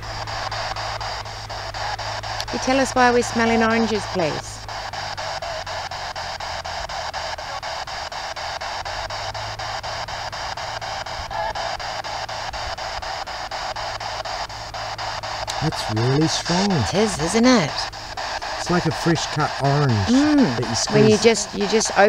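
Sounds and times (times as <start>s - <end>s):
low hum: 0.0s - 22.0s
quick evenly spaced clicks: 0.0s - 22.0s
radio white noise static: 0.0s - 22.0s.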